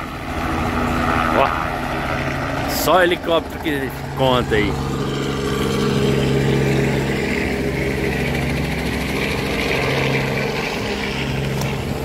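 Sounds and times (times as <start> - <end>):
helicopter flying by: 0.0 - 12.0.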